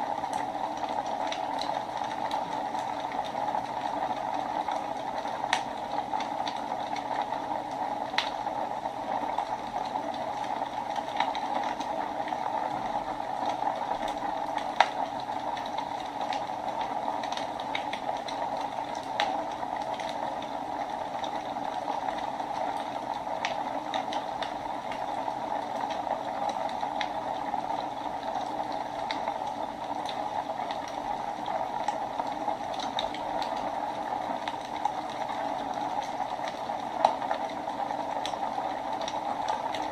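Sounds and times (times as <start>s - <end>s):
wood crackling and popping: 0.0s - 39.9s.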